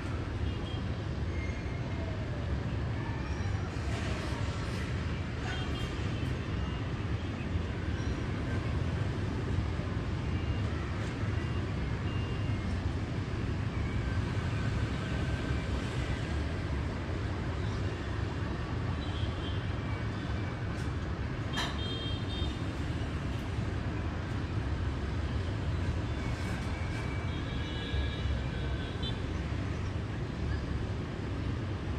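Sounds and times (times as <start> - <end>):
city traffic rumble: 0.0 - 31.9.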